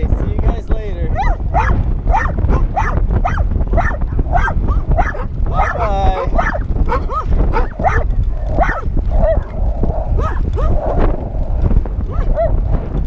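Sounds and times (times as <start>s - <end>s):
steady low rumble: 0.0s - 13.0s
dogs barking: 1.1s - 11.2s, 12.1s - 12.7s.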